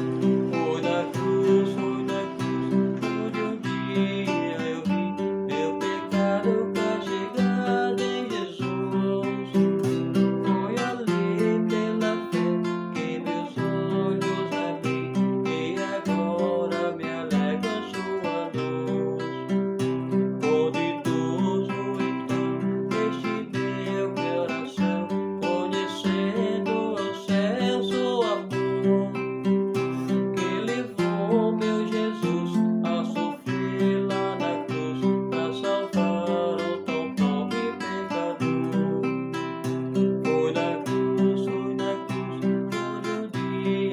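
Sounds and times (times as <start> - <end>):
acoustic guitar playing: 0.0 - 43.9.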